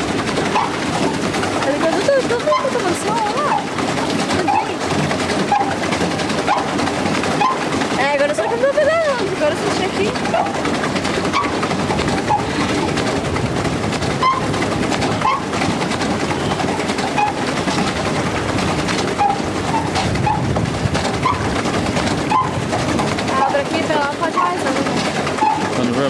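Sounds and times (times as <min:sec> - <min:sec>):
paddle wheel churning water: 0:00.0 - 0:26.0.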